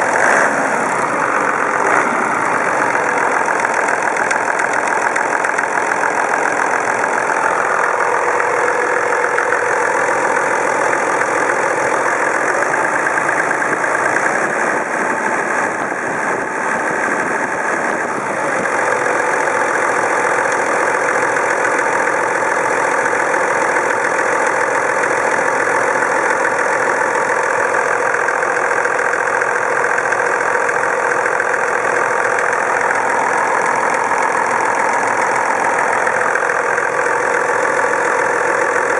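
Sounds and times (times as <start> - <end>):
diesel engine idling: 0.0 - 38.9
irregular engine rattle: 0.0 - 38.9.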